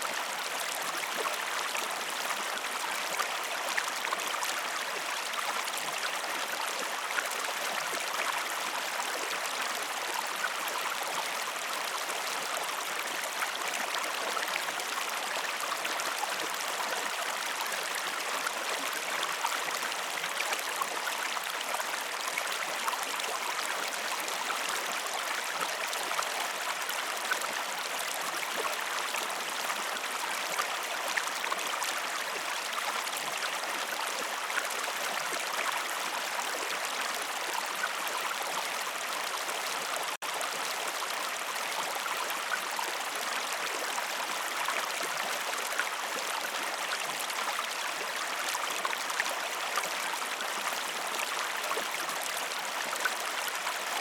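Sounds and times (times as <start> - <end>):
stream water babbling: 0.0 - 54.0.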